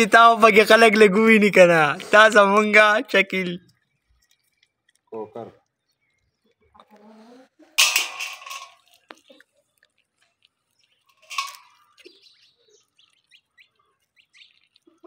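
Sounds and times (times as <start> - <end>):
birds chirping: 2.1 - 7.3, 7.9 - 15.0.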